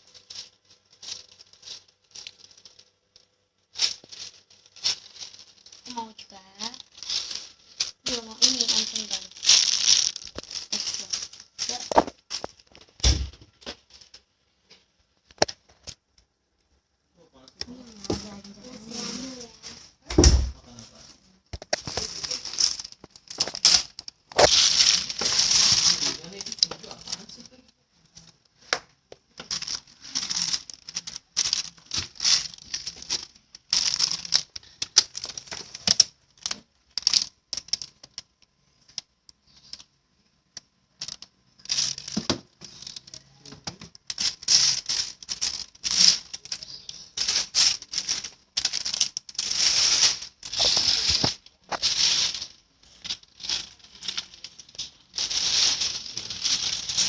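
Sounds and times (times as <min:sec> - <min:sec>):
packaging crinkling: 0:00.2 - 0:13.0, 0:21.6 - 0:39.9, 0:40.6 - 0:57.0.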